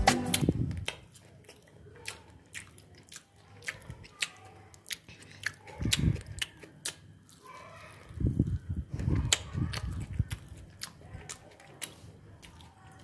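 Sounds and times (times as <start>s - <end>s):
crunchy chewing and mouth sounds: 0.0s - 13.0s.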